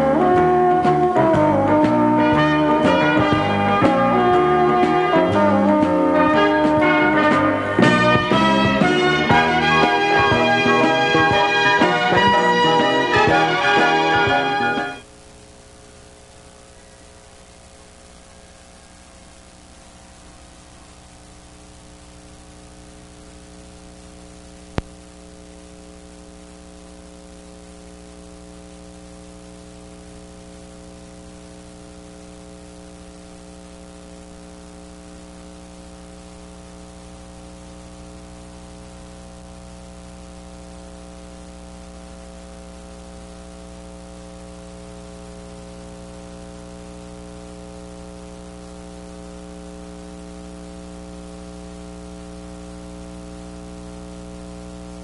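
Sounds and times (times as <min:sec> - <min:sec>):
constant hiss: 0:00.0 - 0:55.0
electrical mains hum: 0:00.0 - 0:55.0.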